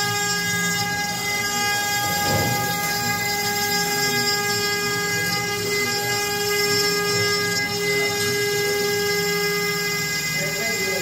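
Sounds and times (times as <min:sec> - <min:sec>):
machine cutting noise: 0:00.0 - 0:11.0
router spindle whining: 0:00.0 - 0:11.0.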